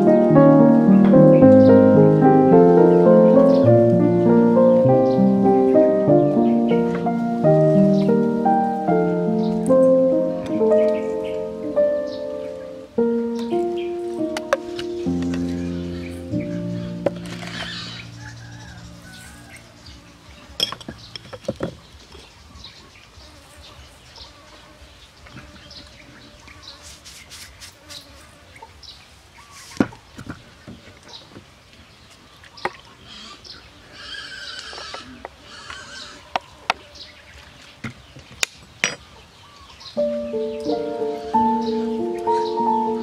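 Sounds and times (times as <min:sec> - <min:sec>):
faint background noise: 0:00.0 - 0:43.0.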